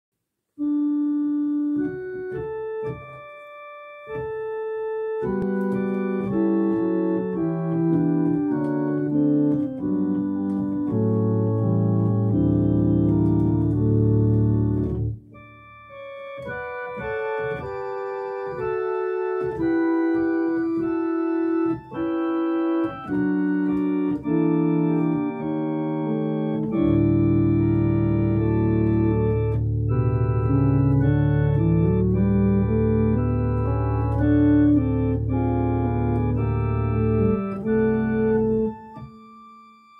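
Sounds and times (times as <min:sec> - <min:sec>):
deep organ pedal bass notes: 0:00.6 - 0:39.9
organ playing sustained chords: 0:00.6 - 0:39.9.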